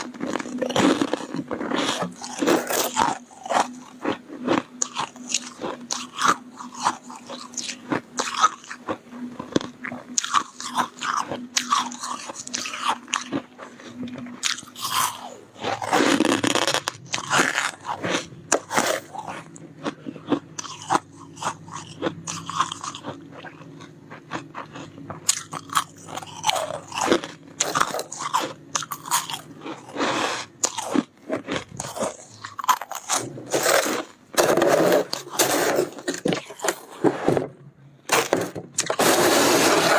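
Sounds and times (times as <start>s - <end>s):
crunchy chewing of frost: 0.0s - 37.3s, 38.1s - 39.9s.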